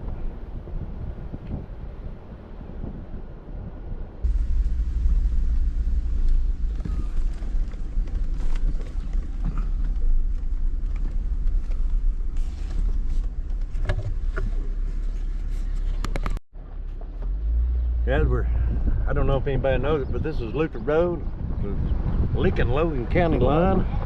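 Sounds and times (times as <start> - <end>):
vehicle rumbling on dirt road: 0.0 - 24.0.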